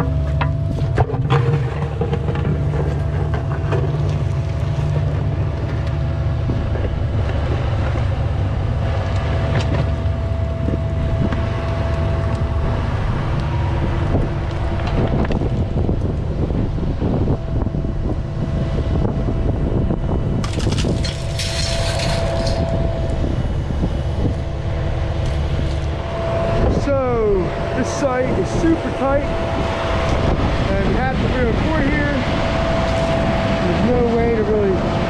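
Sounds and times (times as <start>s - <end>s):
diesel excavator engine running: 0.0s - 35.0s
high whine: 0.0s - 35.0s.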